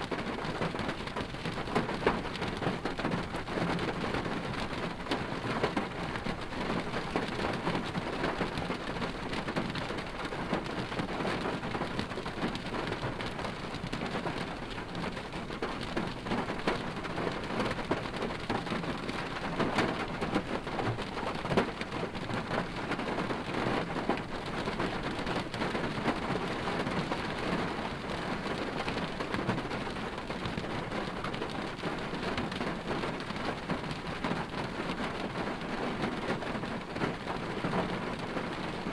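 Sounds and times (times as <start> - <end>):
rain hiss and patter on car: 0.0 - 38.9.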